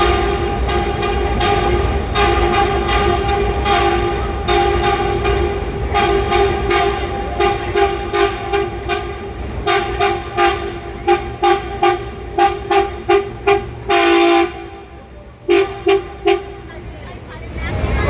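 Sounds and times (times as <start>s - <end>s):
train horn toots: 0.0s - 16.9s
low steady rumble: 0.0s - 18.0s.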